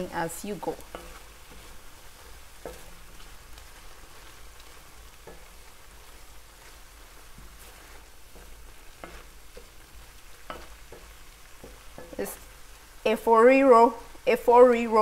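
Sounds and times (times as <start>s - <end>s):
wooden spoon scraping a pan: 0.0s - 13.8s
stew sizzling in a pan: 0.0s - 15.0s.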